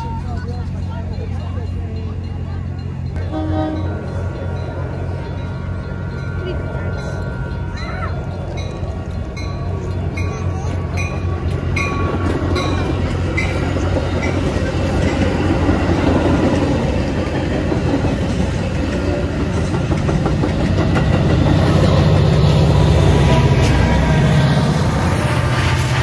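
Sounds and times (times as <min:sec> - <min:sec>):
diesel locomotive rumble: 0:00.0 - 0:26.0
wheels clacking on rails: 0:00.0 - 0:26.0.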